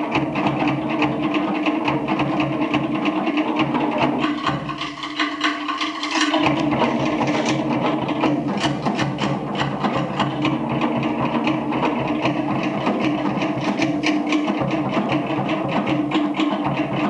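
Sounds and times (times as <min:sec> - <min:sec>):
fast sharp drum beats: 0:00.0 - 0:17.0.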